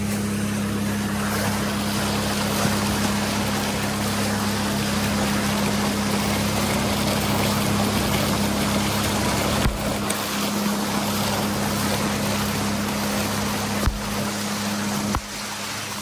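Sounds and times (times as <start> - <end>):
motorboat engine humming: 0.0 - 16.0
wind and water rushing: 0.0 - 16.0.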